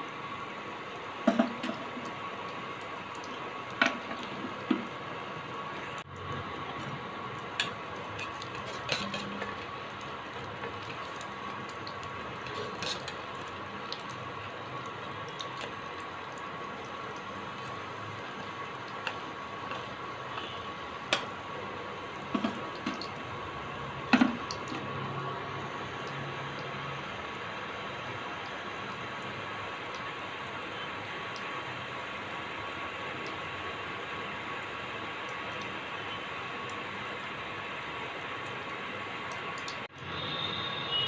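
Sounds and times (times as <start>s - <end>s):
omelette sizzling in hot oil: 0.0s - 41.0s.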